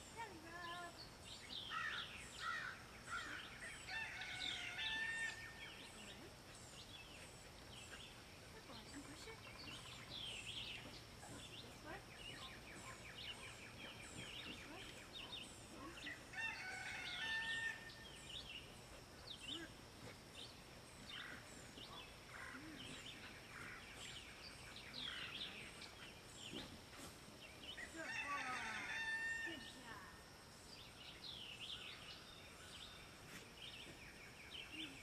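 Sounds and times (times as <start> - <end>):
birds chirping and calling: 0.0 - 29.9.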